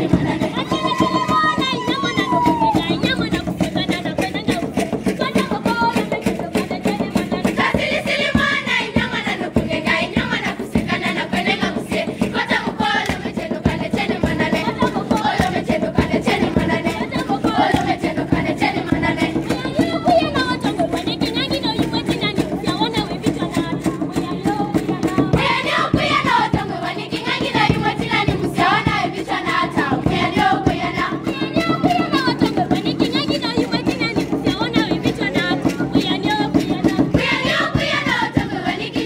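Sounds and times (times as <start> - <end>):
girls' choir singing: 0.0 - 22.6, 23.2 - 34.3, 35.1 - 39.0
fast drumbeat: 0.0 - 39.0.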